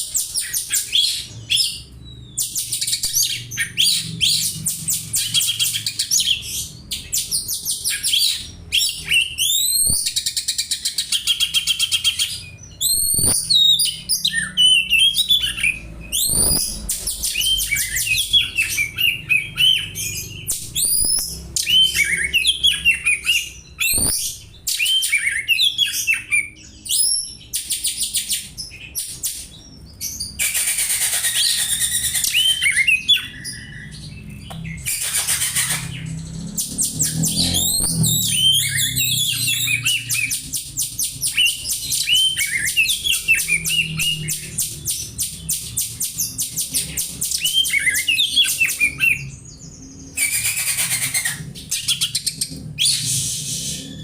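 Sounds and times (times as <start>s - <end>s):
bird singing fast chirps and rattles: 0.0s - 53.1s.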